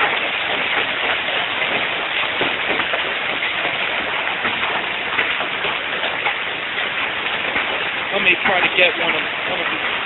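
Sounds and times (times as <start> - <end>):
hailstones pelting down: 0.0 - 10.0.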